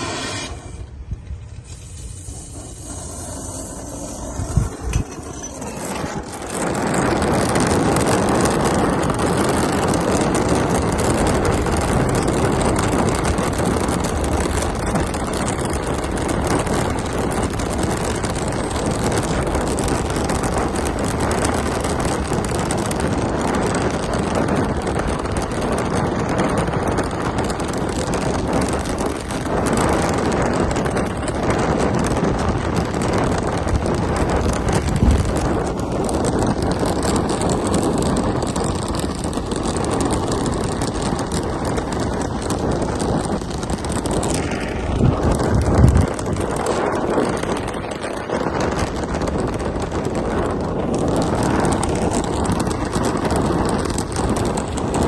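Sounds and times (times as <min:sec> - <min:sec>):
brazing torch flame: 0:00.0 - 0:55.0
sharp igniter clicks: 0:00.0 - 0:55.0.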